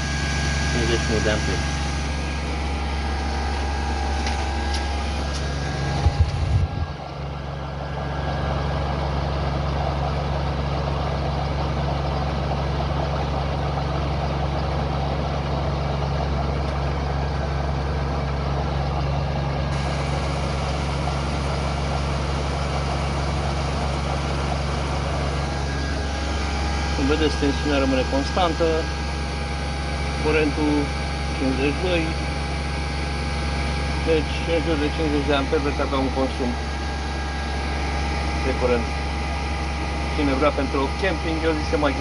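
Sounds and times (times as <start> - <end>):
air conditioner humming: 0.0 - 11.6, 15.4 - 42.0.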